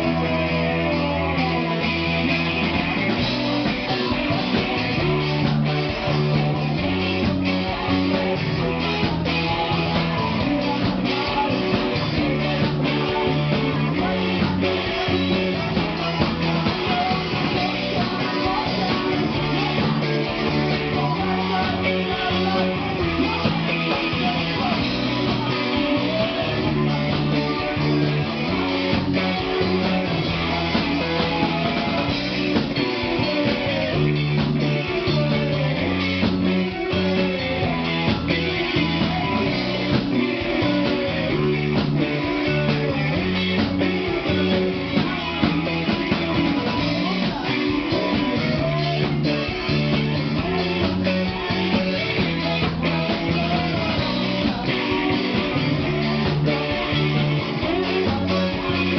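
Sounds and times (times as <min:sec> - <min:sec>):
drum kit: 0:00.0 - 0:58.9
electric guitars strummed: 0:00.0 - 0:58.9.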